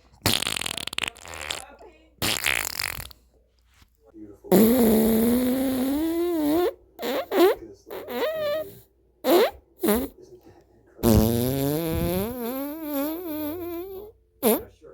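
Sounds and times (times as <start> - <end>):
farting: 0.0 - 3.2, 4.5 - 10.2, 11.0 - 14.7.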